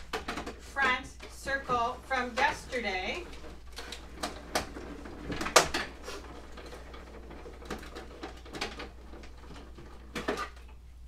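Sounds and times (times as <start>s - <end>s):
hand-cranked machine clicking and knocking: 0.0s - 10.7s.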